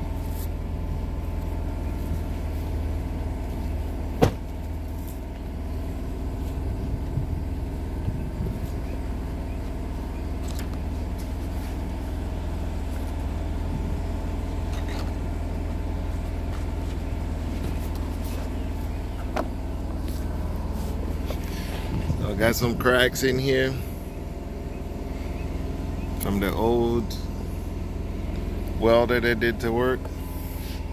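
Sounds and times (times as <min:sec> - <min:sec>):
welding rig engine running: 0:00.0 - 0:30.9.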